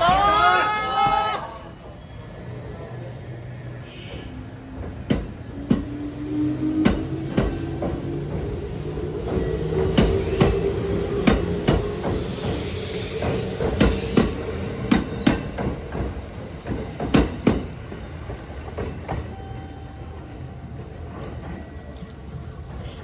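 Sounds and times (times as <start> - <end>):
train running rumble: 0.0 - 23.0
train wheels clacking on rail joints: 3.8 - 23.0.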